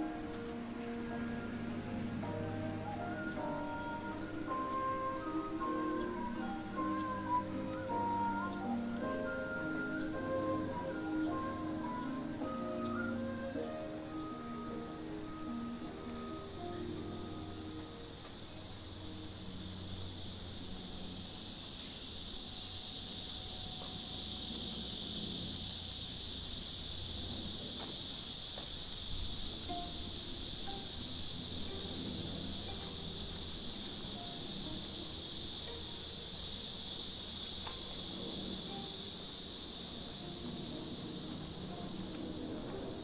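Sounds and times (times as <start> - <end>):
cicadas droning: 0.0 - 43.0.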